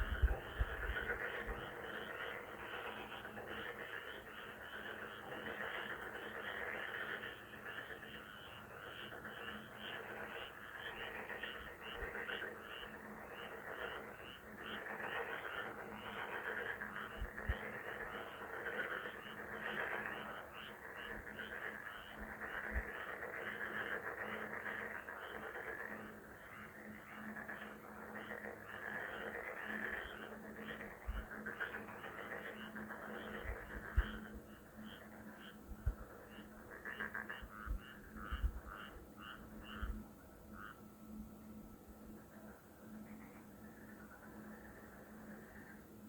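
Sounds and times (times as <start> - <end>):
frogs croaking in chorus: 0.0 - 46.0.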